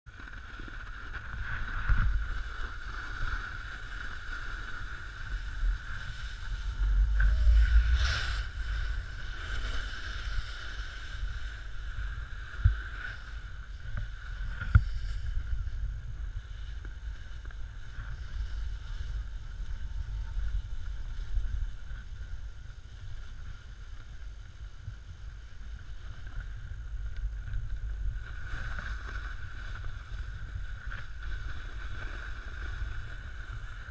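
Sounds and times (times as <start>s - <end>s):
wind noise on microphone: 0.1s - 33.9s
snowboard scraping over snow: 0.2s - 33.9s.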